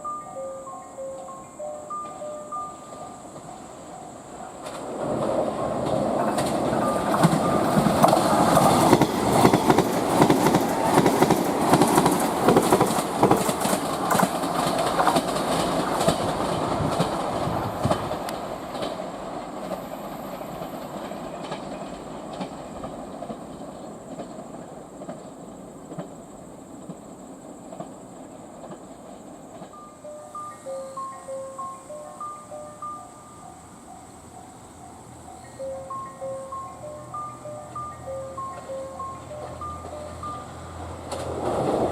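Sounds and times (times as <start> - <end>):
train wheels clacking on rails: 0.0 - 41.9.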